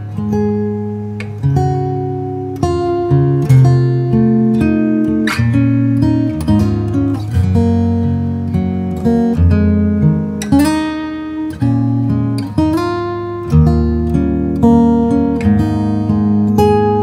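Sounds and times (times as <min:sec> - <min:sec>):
acoustic guitar fingerstyle: 0:00.0 - 0:17.0.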